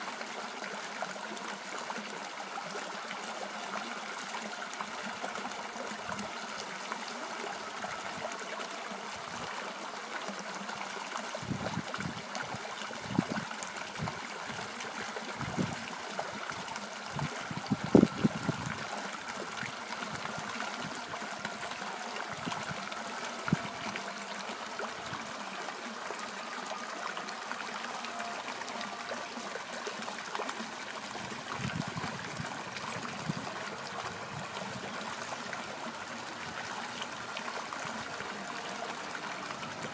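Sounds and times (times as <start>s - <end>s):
stream trickling and gurgling: 0.0s - 39.9s.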